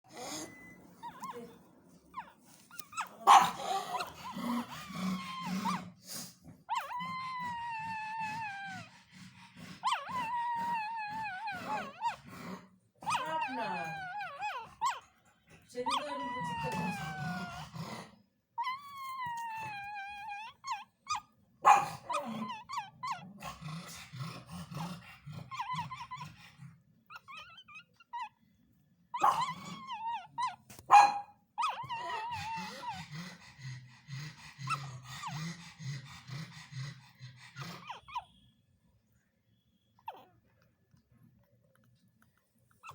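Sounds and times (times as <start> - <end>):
puppy whimpering and howling: 0.1 - 6.0, 6.6 - 18.0, 18.6 - 23.6, 24.6 - 28.5, 29.1 - 30.8, 31.5 - 36.9, 37.5 - 38.6, 40.0 - 40.5.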